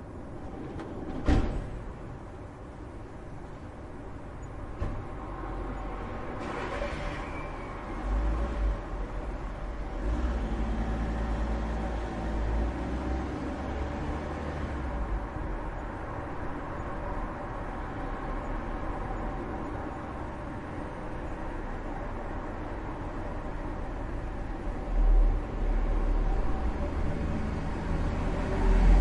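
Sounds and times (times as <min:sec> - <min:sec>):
background traffic hum: 0:00.0 - 0:29.0
heavy vehicle engine rumble: 0:00.0 - 0:29.0.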